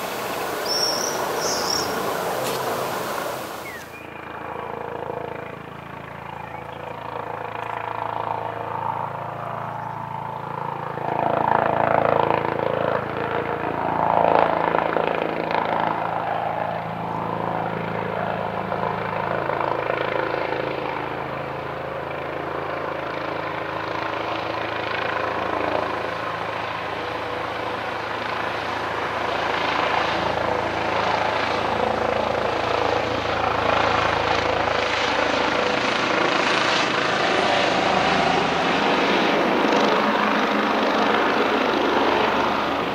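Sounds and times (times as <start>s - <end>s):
helicopter engines and rotor: 0.0s - 42.9s.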